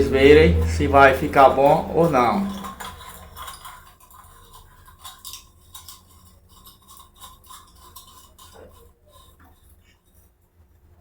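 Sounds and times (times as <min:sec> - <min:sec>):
bulb threads scraping and clicking: 0:00.0 - 0:10.7.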